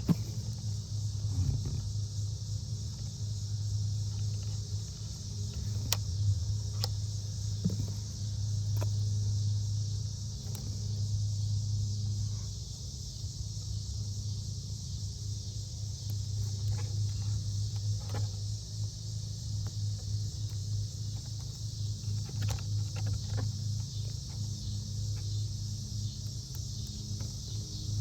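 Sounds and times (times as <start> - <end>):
constant hiss: 0.0 - 28.0
steady low hum: 0.0 - 28.0.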